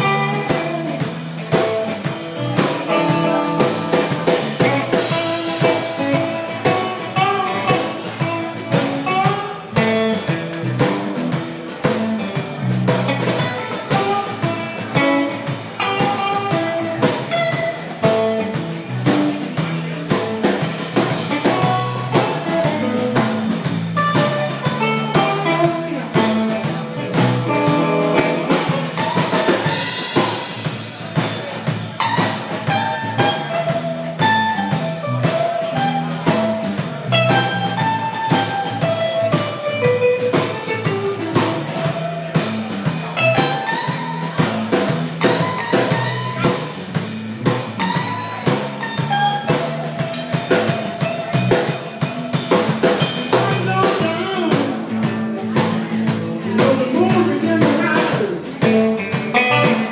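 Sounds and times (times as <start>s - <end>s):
drum kit beat: 0.0s - 59.9s
electric bass: 0.0s - 59.9s
electric guitar: 0.0s - 59.9s.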